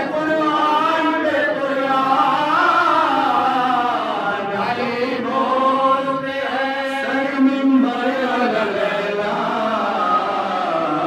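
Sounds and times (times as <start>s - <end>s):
men chanting into a microphone: 0.0s - 11.0s.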